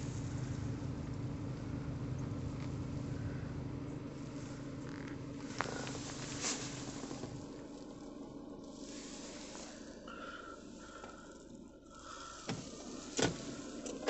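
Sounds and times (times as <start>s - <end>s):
car cabin drone: 0.0s - 14.0s.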